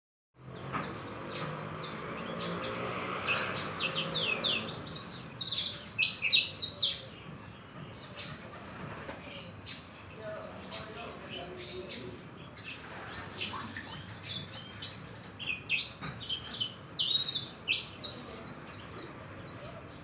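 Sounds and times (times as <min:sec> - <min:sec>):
songbird twittering: 0:00.4 - 0:20.0.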